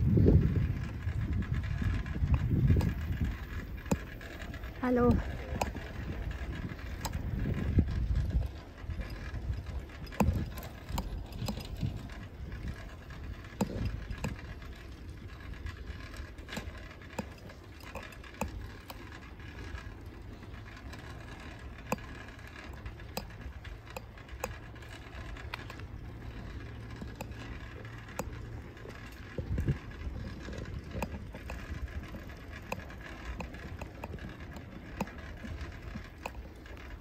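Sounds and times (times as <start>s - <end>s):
bicycle clicks and rattles: 0.0s - 37.0s
wind rumble on microphone: 0.0s - 37.0s.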